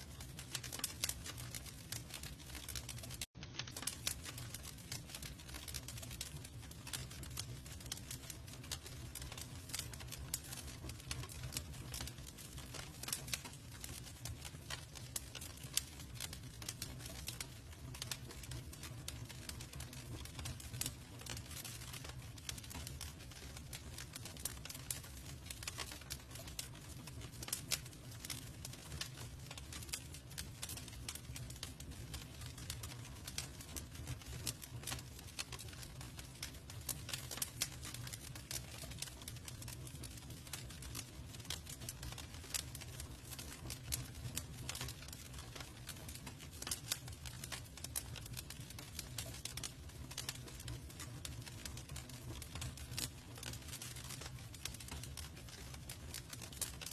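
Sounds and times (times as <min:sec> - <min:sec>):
campfire crackling and popping: 0:00.0 - 0:56.9.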